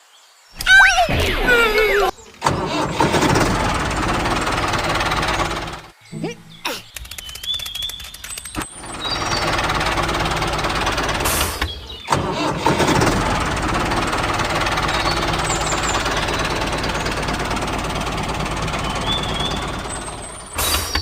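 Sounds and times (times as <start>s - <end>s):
tractor engine running: 0.6s - 21.0s.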